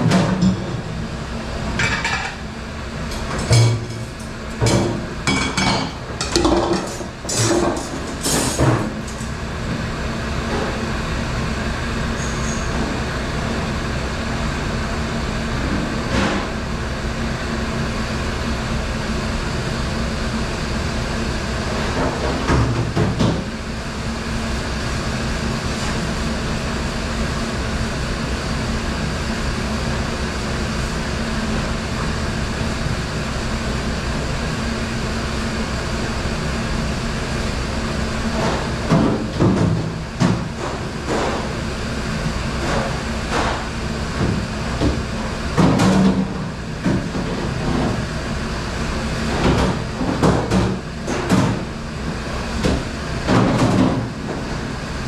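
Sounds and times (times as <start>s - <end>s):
dishwasher machinery hum: 0.0s - 55.0s.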